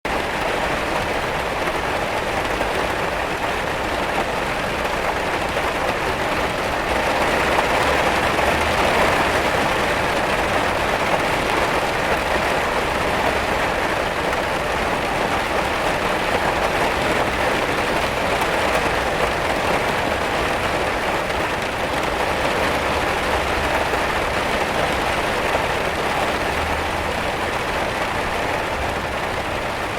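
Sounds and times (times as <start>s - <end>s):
rain pattering on a window: 0.1s - 29.9s.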